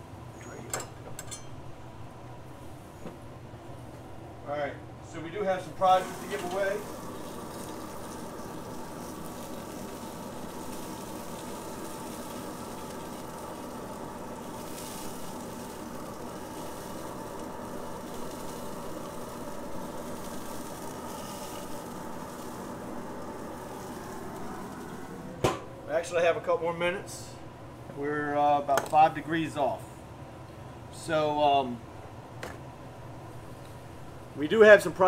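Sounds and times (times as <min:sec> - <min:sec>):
grill sizzling: 0:00.0 - 0:29.8, 0:32.8 - 0:35.0
faint steady hum: 0:00.0 - 0:35.0.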